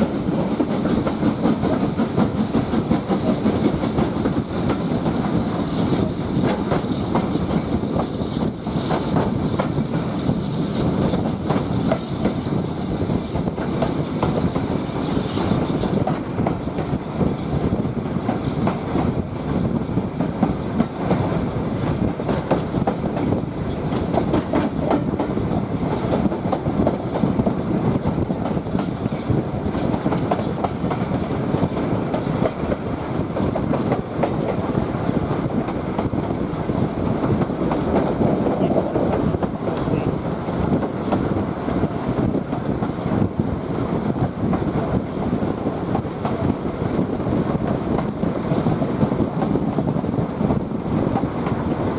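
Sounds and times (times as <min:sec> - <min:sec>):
clickety-clack over track: 0:00.0 - 0:51.9
train wheels rumbling on rails: 0:00.0 - 0:51.9.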